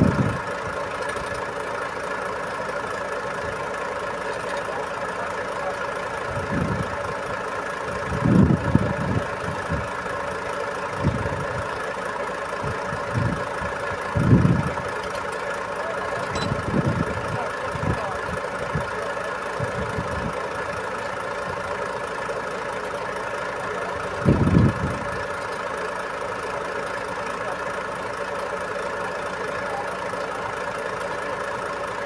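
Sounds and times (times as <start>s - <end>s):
truck diesel engine hum: 0.0s - 32.0s.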